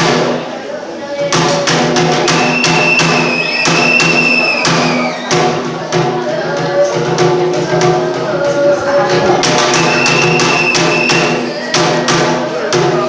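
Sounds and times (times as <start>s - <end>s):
sharp drum strikes: 0.0s - 0.6s, 1.2s - 13.0s.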